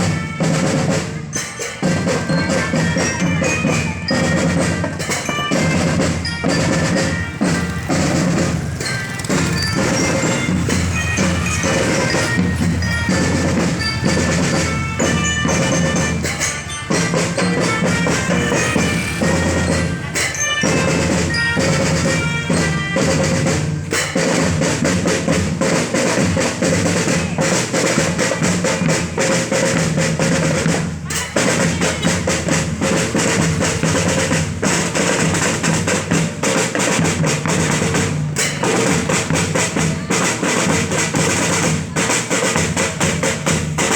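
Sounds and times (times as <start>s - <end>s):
marching band playing: 0.0s - 43.9s
snare and bass drums: 0.0s - 43.9s.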